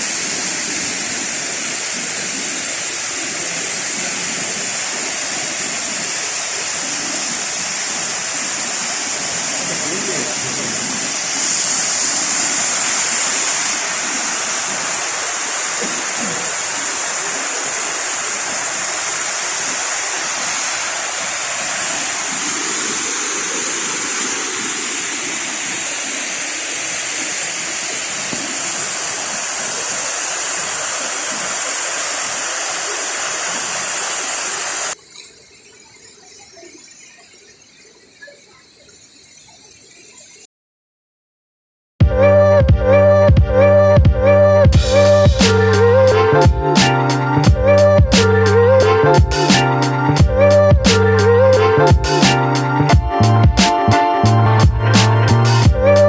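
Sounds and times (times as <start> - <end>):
waterfall rushing: 0.0 - 35.0, 44.8 - 56.0.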